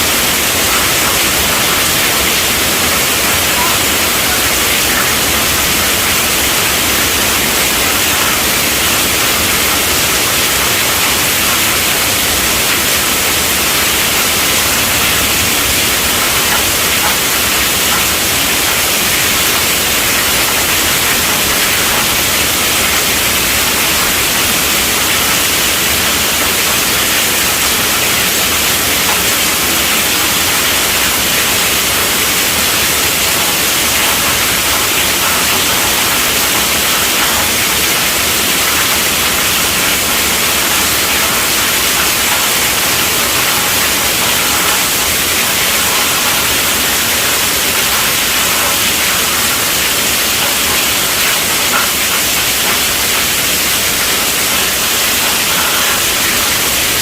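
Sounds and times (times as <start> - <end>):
heavy rain on a tent roof: 0.0 - 57.0.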